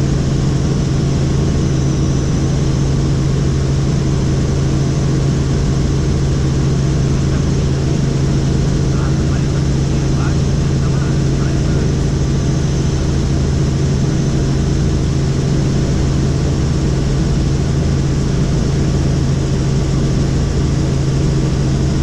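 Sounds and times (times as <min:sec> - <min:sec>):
helicopter drone: 0:00.0 - 0:22.0.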